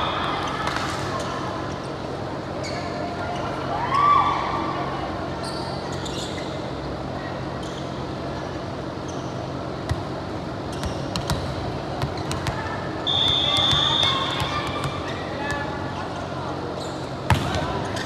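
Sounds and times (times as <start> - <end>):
sports court background hum: 0.0 - 18.0.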